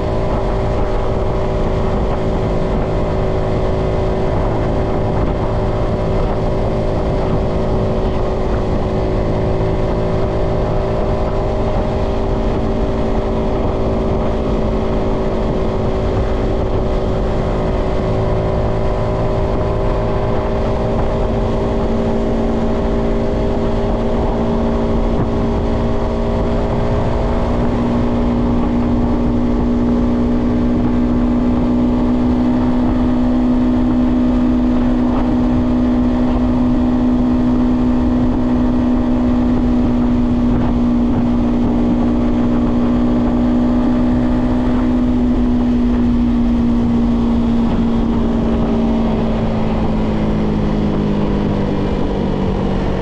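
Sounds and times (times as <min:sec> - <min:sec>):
motorcycle engine cruising: 0:00.0 - 0:53.0
road rumble: 0:00.0 - 0:53.0
wind: 0:00.0 - 0:53.0.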